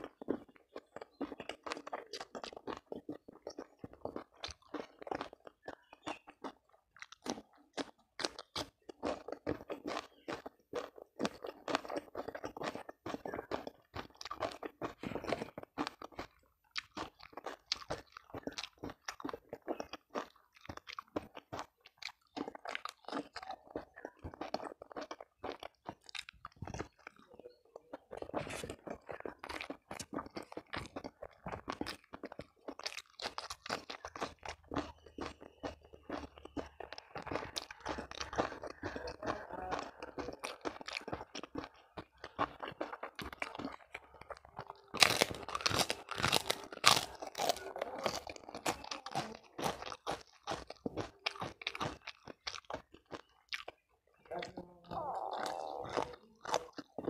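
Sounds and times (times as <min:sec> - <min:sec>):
person chewing and crunching food: 0:00.0 - 0:57.0
wet mouth sounds: 0:00.0 - 0:57.0.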